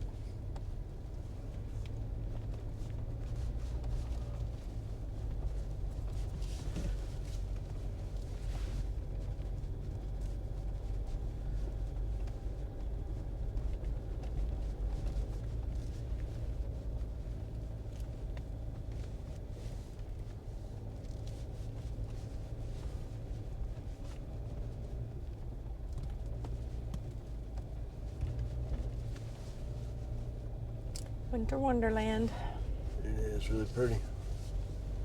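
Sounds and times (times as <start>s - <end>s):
engine and tyres rumbling: 0.0s - 35.0s.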